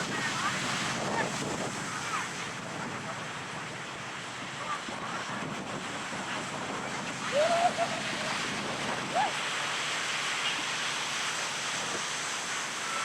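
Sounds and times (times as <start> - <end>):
ocean surf washing on beach: 0.0 - 13.0.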